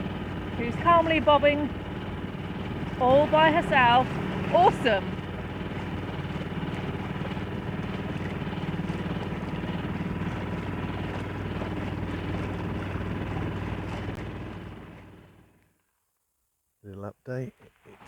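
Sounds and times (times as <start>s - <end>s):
outboard motor running: 0.0s - 15.7s.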